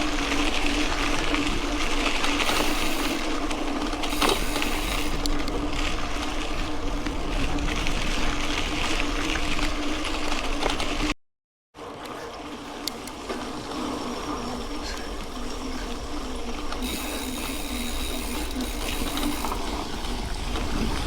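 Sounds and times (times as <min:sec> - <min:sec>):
bike clicks and rattles: 0:00.0 - 0:11.1, 0:11.8 - 0:21.0
bike tyres on gravel: 0:00.0 - 0:11.1, 0:12.3 - 0:21.0.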